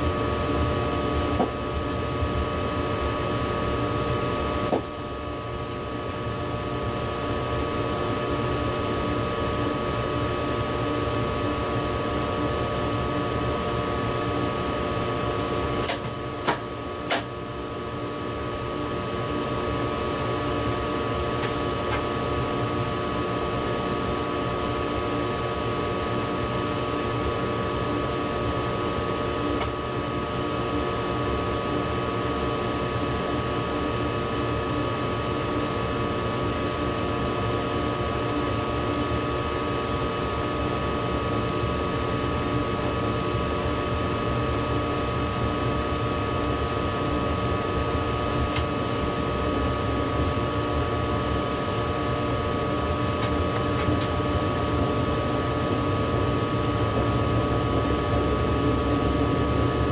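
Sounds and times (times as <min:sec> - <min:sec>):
train cab running hum: 0:00.0 - 0:06.1, 0:07.0 - 0:17.5, 0:19.7 - 0:33.7, 0:34.3 - 0:59.9.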